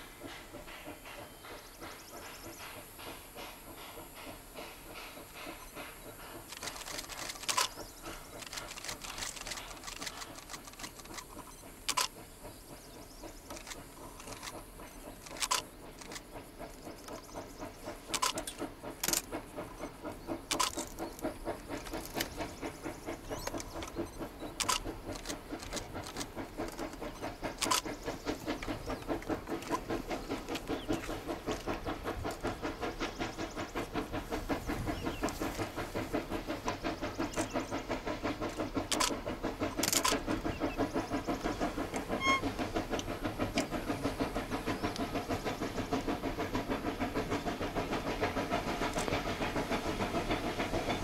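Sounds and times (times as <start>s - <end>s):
steam locomotive exhaust beats: 0.0s - 51.0s
sharp clicks: 0.2s - 12.3s, 13.4s - 51.0s.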